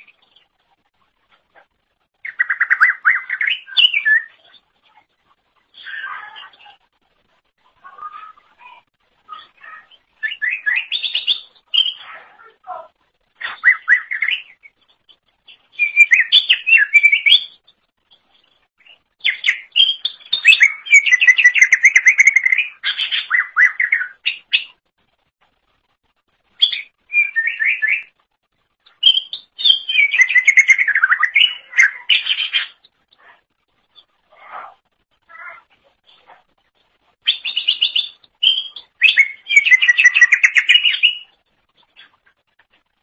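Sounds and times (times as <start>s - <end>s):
bird warbling and chattering: 1.4s - 6.8s, 7.6s - 18.3s, 18.9s - 24.8s, 28.9s - 36.5s, 37.2s - 42.3s.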